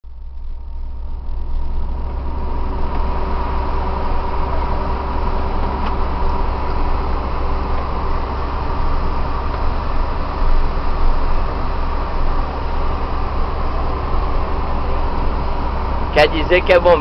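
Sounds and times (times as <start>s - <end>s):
truck engine rumble: 0.0s - 17.0s
steady whine: 0.1s - 17.0s.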